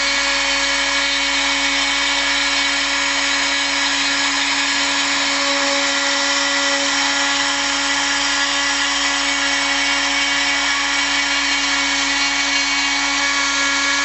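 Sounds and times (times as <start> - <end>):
cnc mill spindle whine: 0.0 - 14.0
cutting noise: 0.0 - 14.0.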